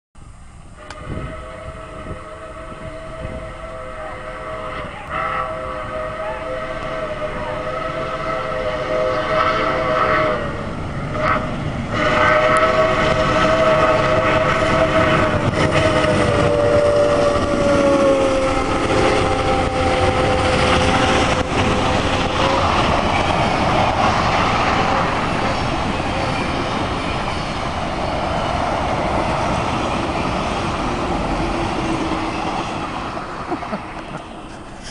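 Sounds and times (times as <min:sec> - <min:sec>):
train cars rumbling on rails: 0:00.2 - 0:34.9
steam locomotive chime whistle: 0:00.7 - 0:30.3.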